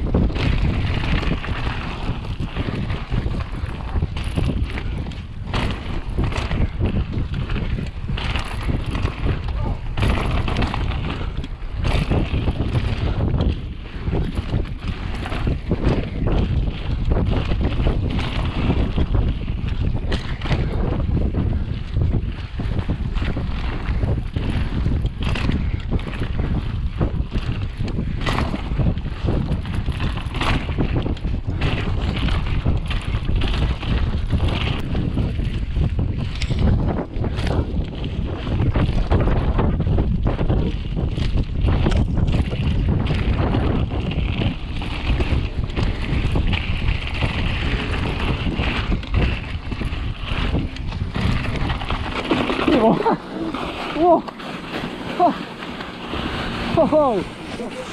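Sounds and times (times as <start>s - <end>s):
bike tyres rolling on dirt: 0.0s - 57.9s
wind buffeting microphone: 0.0s - 57.9s.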